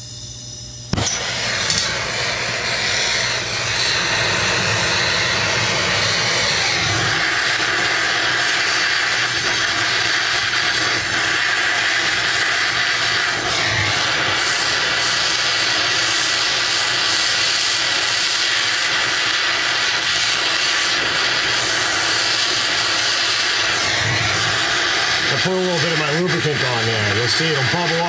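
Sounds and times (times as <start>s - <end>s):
gas torch hissing: 0.0s - 28.0s.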